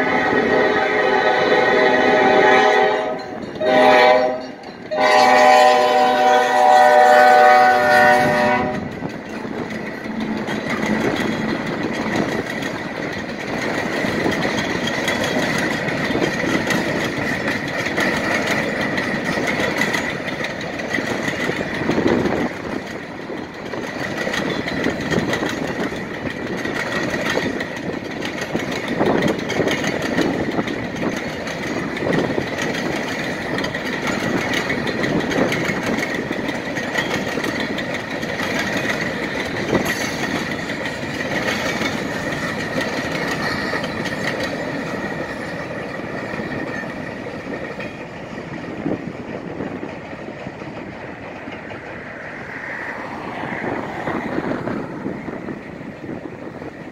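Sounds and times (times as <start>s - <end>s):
train wheels rumbling over rails: 0.0s - 56.9s
wind buffeting microphone: 7.4s - 56.9s.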